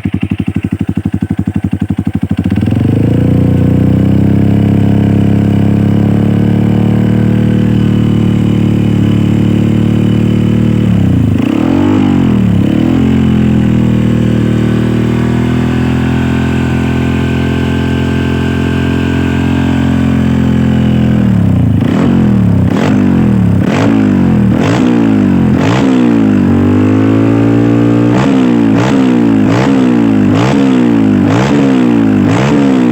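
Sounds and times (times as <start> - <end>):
motorcycle idling and revving: 0.0 - 32.9.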